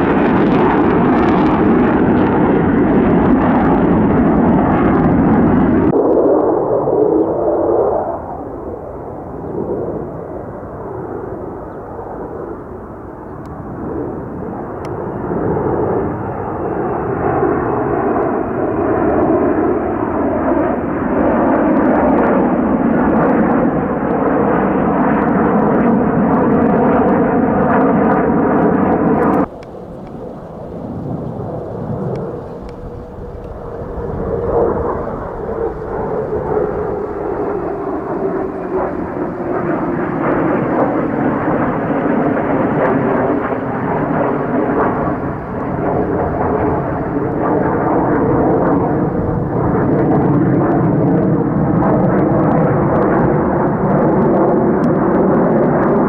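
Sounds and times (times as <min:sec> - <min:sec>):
fighter jet engine roar: 0:00.0 - 0:56.0
jet engine whine: 0:00.0 - 0:56.0.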